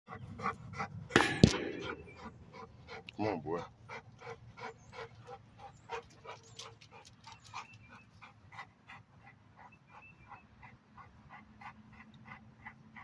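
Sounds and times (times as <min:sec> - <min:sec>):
dog panting rapidly: 0:00.1 - 0:01.1, 0:01.8 - 0:13.0.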